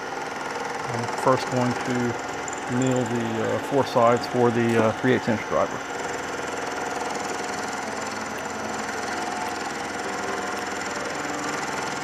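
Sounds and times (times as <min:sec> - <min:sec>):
milling machine cutting steel: 0:00.0 - 0:12.0.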